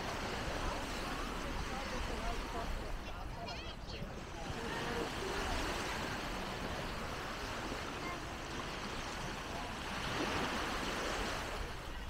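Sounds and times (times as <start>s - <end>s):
faint voices of passers-by: 0.0s - 12.0s
outdoor background noise: 0.0s - 12.0s.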